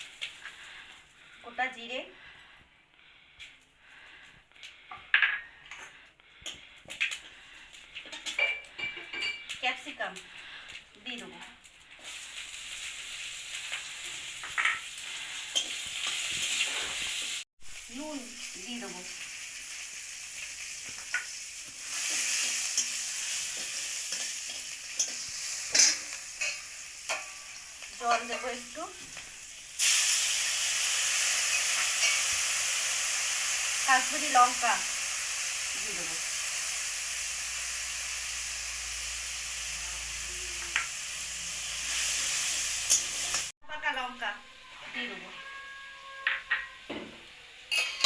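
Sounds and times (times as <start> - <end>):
vegetables sizzling in hot oil: 0.0 - 2.0, 6.6 - 44.3.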